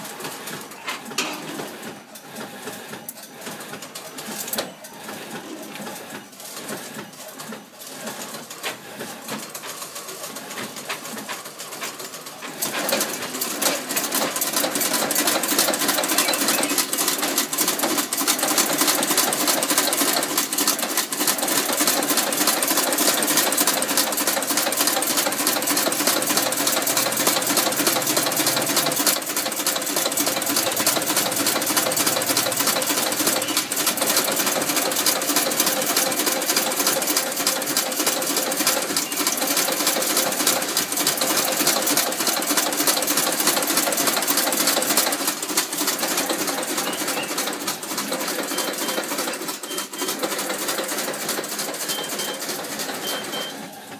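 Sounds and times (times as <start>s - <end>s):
machine clattering: 0.0s - 53.9s.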